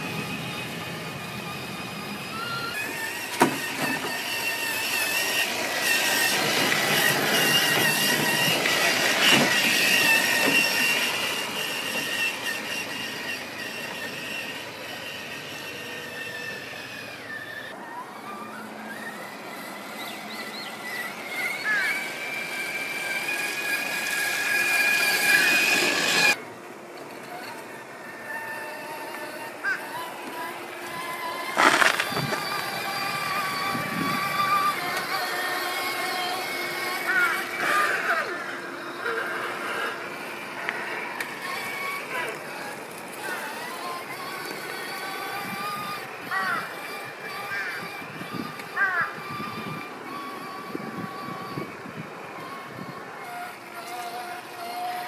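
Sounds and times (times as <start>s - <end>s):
toy car motor whining: 0.0s - 55.0s.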